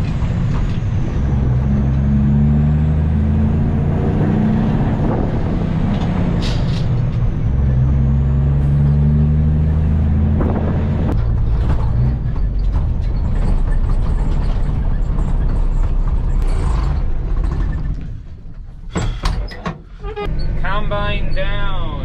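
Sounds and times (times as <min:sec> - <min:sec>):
diesel machinery running: 0:00.0 - 0:22.0.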